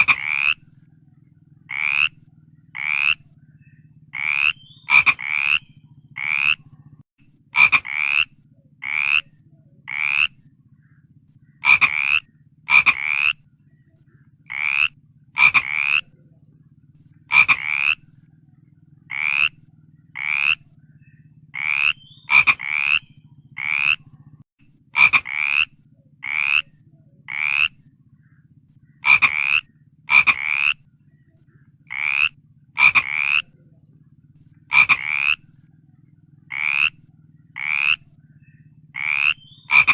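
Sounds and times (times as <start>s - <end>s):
frog croaking: 0.0s - 13.4s, 14.4s - 39.9s
low steady hum: 0.0s - 39.9s.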